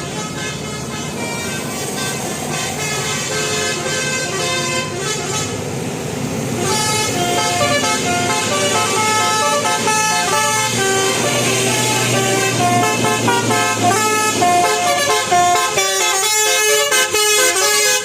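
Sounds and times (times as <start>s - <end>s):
bus multi-tone horn melody: 0.0s - 18.0s.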